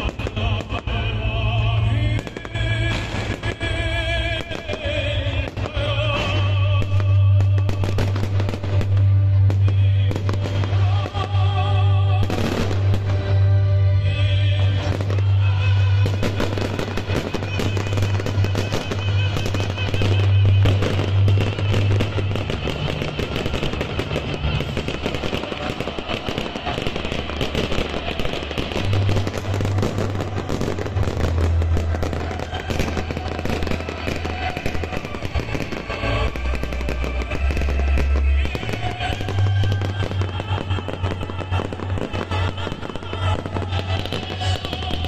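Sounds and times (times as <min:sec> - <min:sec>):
fireworks crackling and popping: 0:00.0 - 0:45.0
loud music with heavy bass: 0:00.0 - 0:45.0.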